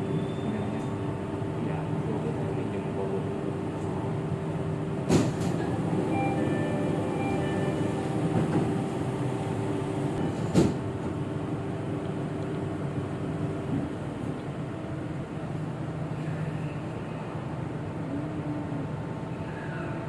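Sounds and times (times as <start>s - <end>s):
train running hum: 0.0s - 20.0s.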